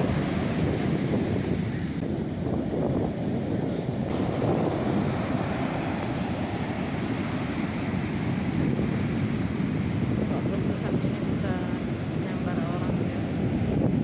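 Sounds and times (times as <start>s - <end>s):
heavy surf rumbling: 0.0s - 14.0s
wind buffeting microphone: 0.0s - 14.0s.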